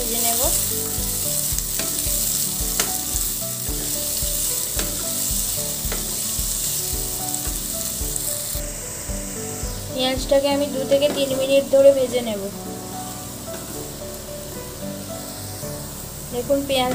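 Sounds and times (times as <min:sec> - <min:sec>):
onions sizzling in oil: 0:00.0 - 0:16.9.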